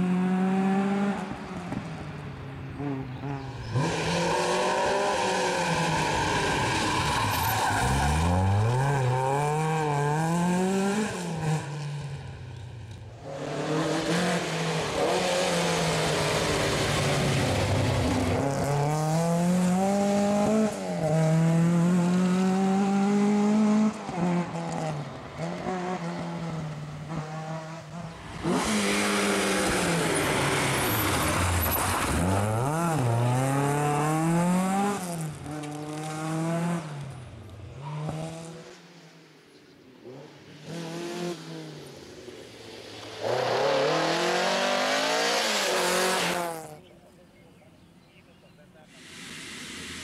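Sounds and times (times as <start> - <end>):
rally car engines passing: 0.0 - 47.0.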